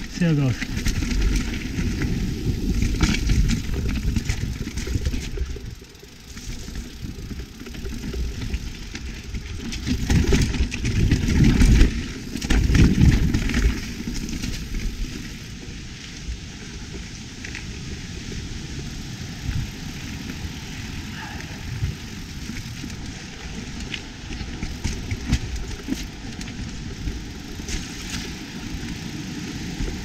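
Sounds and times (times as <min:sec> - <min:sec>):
bike rattling and knocking: 0:00.0 - 0:15.7, 0:21.1 - 0:30.0
wind rushing over microphone: 0:00.0 - 0:30.0.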